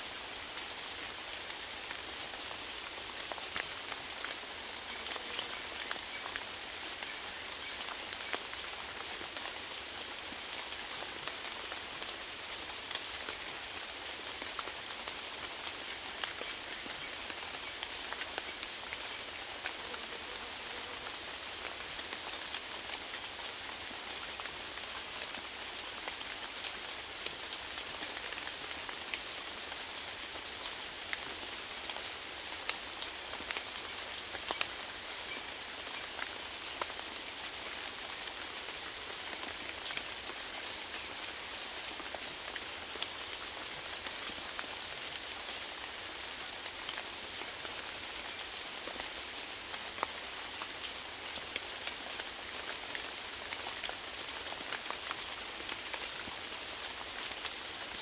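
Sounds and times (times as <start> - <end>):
rain drops pattering: 0.1 - 58.0.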